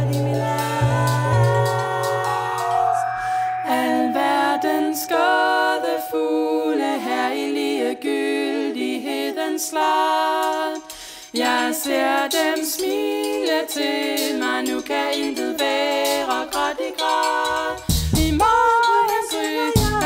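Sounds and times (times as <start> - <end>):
women singing in harmony: 0.0 - 20.0.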